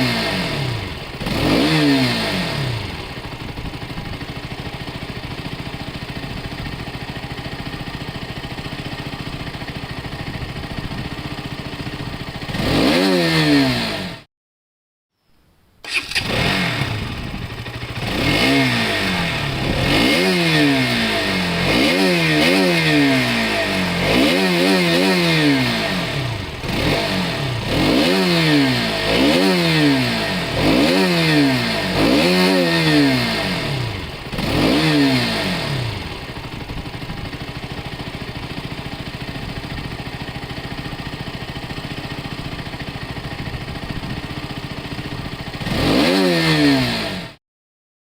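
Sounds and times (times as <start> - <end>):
motorcycle engine revving and idling: 0.0 - 14.3, 15.8 - 47.4.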